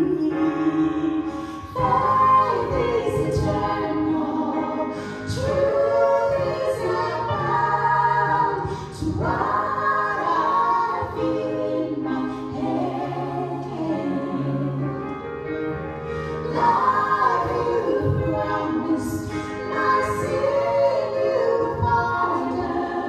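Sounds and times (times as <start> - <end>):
people singing a worship song: 0.0 - 23.0.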